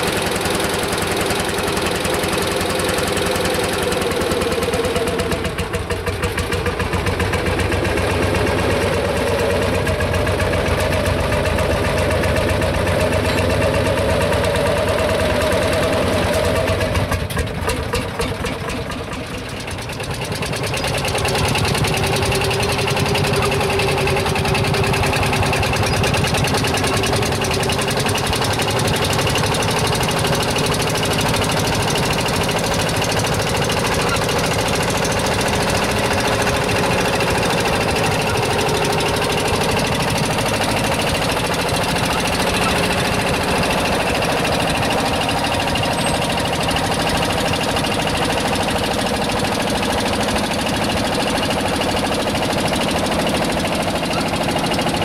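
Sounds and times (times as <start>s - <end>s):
two-stroke tractor engine running: 0.0s - 55.0s.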